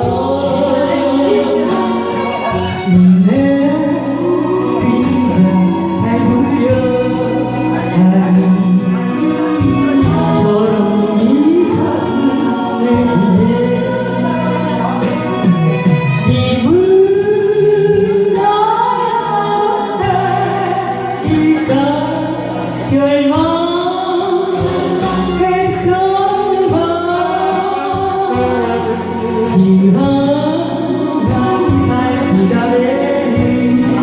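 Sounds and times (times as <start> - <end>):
backing music: 0.0 - 34.0
person singing a ballad: 0.0 - 34.0.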